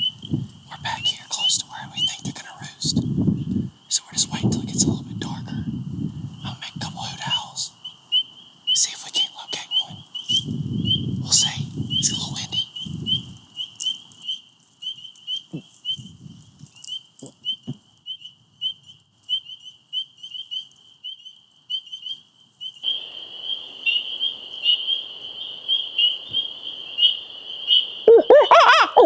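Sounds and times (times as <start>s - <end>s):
high insect hiss: 0.0s - 18.0s, 22.6s - 28.7s
frogs peeping: 0.0s - 29.0s.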